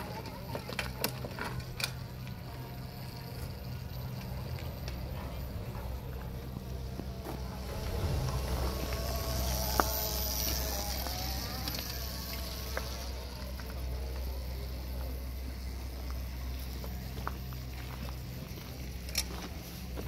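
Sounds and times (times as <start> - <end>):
electric motorcycle motor whining: 0.0 - 20.0.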